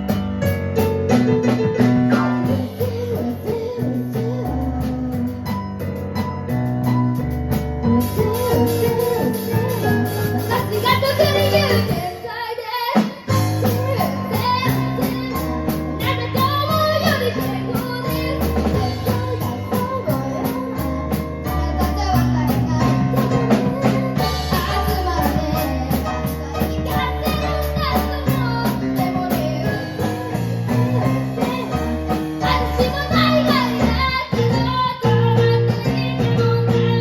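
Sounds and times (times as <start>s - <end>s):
keyboard: 0.0s - 12.4s, 13.2s - 37.0s
drum kit beat: 0.0s - 37.0s
child singing: 2.1s - 5.6s, 8.0s - 37.0s.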